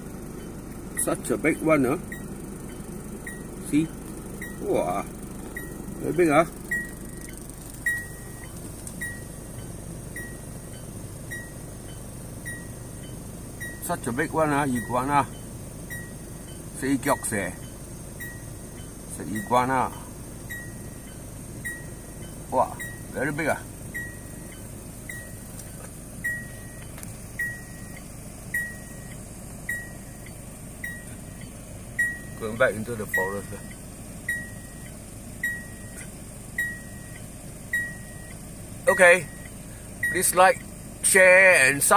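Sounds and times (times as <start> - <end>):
car warning beeps: 0.0 - 41.9
steady low hum: 0.0 - 41.9.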